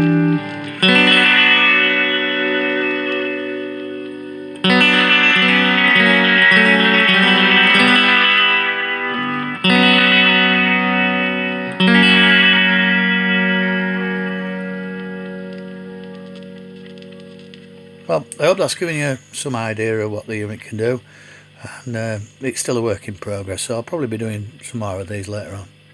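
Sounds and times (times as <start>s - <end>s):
electric guitar chords with echo: 0.0s - 22.4s.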